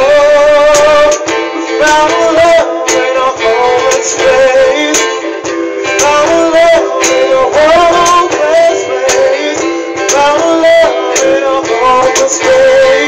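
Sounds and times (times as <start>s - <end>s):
plucked guitar chords: 0.0s - 13.0s
sliding melody line: 0.0s - 13.0s
sharp percussive hits: 0.7s - 13.0s.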